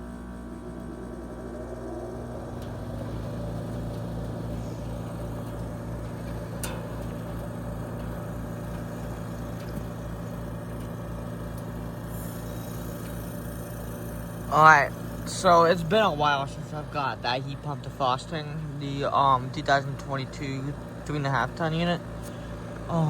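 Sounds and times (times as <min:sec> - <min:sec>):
compressor hum pulsing: 0:00.0 - 0:23.0.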